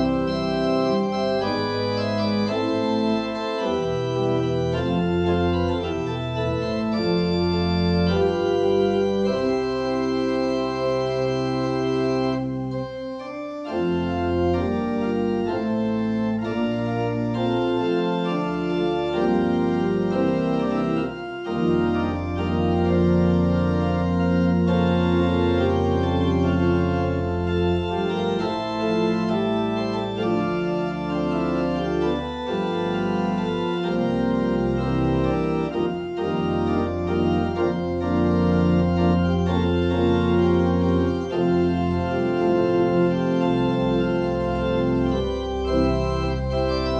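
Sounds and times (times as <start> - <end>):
church organ chords: 0.0 - 46.9.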